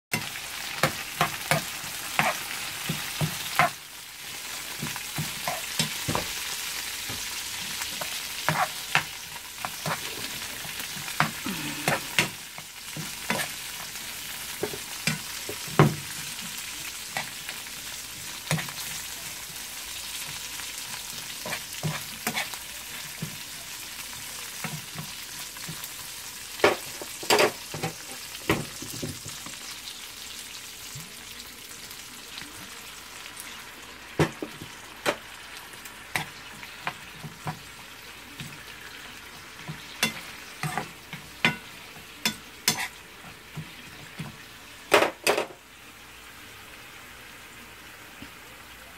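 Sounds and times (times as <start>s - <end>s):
oil sizzling in frying pan: 0.1s - 48.9s.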